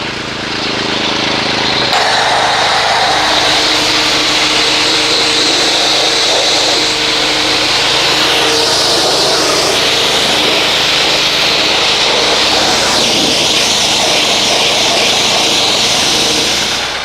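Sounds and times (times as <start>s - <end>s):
pressure washer motor hum: 0.0s - 17.0s
pressure washer spraying water: 0.0s - 17.0s.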